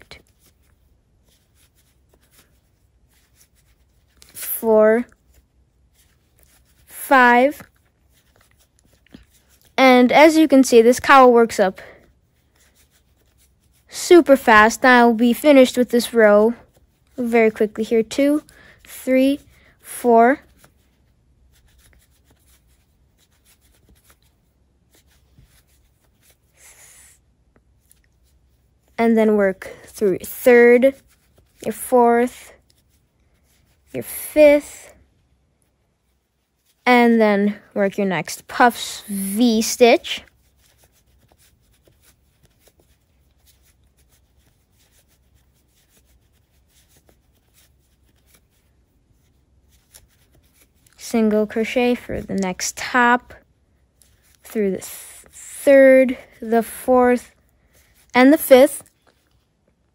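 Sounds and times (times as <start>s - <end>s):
crochet hook scratching yarn: 0.0s - 59.5s
yarn and fabric rustle: 0.0s - 59.9s.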